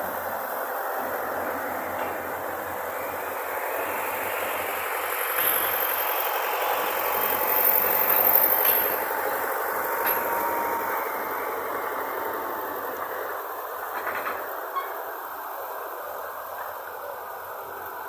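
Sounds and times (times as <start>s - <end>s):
farm machinery diesel engine: 0.0s - 18.0s.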